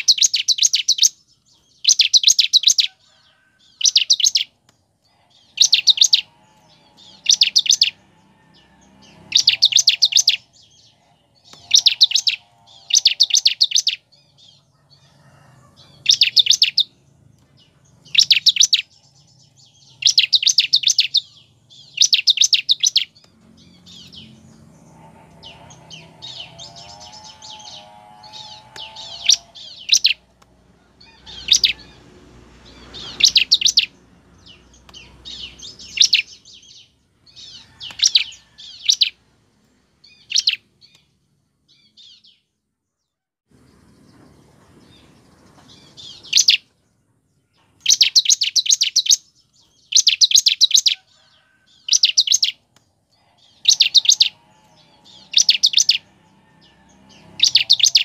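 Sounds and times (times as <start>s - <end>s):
bird chirping trills: 0.0s - 42.5s, 43.5s - 58.0s.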